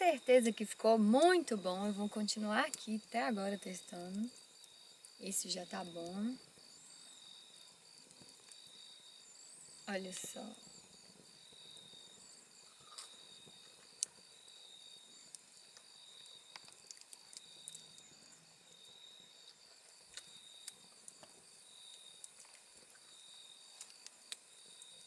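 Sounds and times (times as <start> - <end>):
insect trills: 0.0 - 25.0.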